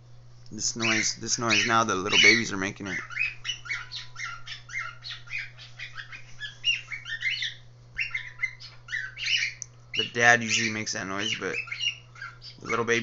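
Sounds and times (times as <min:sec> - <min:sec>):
cockatiel chicks chirping: 0:00.6 - 0:13.0.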